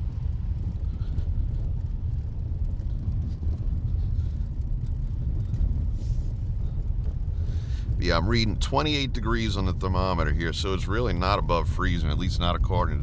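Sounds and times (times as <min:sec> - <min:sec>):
car road rumble on icy road: 0:00.0 - 0:13.0.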